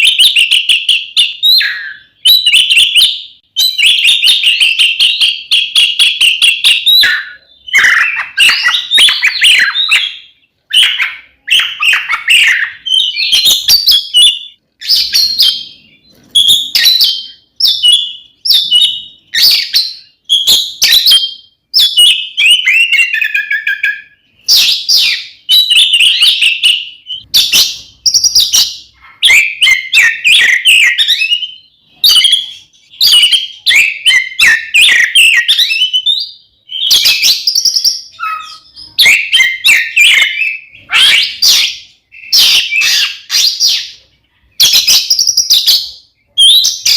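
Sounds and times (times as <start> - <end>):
magpie-robin singing whistles and trills: 0.0 - 46.9.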